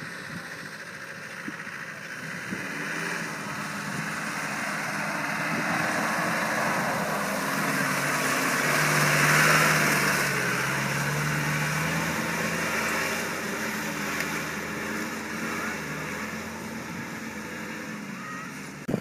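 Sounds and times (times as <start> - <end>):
tyres through wet mud: 0.0 - 19.0
vehicle engine pulling: 0.0 - 19.0.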